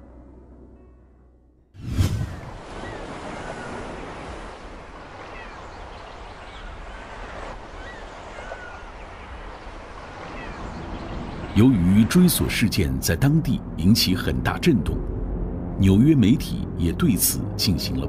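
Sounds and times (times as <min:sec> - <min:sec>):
wind: 0:01.8 - 0:18.0.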